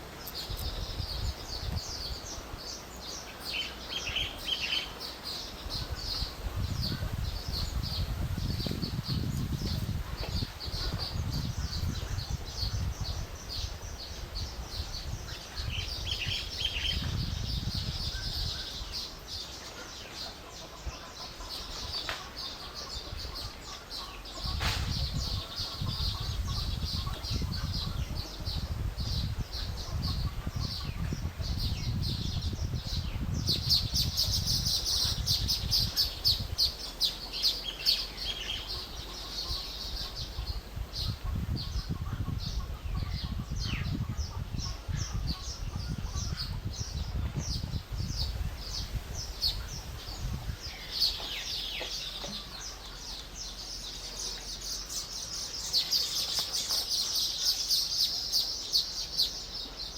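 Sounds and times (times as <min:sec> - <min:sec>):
birds chattering: 0:00.0 - 0:59.9.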